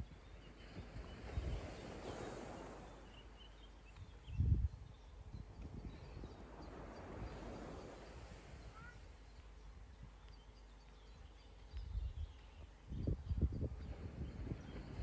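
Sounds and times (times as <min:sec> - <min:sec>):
wind on microphone: 0:00.0 - 0:09.1, 0:11.7 - 0:15.0
faint high bird chirps: 0:00.1 - 0:15.0.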